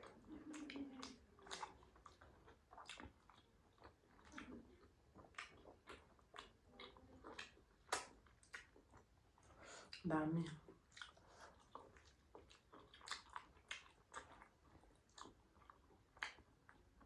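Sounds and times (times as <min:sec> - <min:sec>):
chewing mouth sounds: 0:00.0 - 0:17.0.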